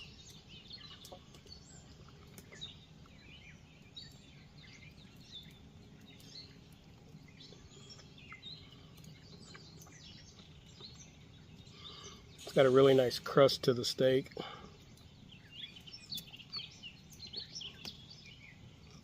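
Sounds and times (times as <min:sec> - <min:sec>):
birds chirping: 0:00.0 - 0:19.0
low steady hum: 0:00.0 - 0:19.0.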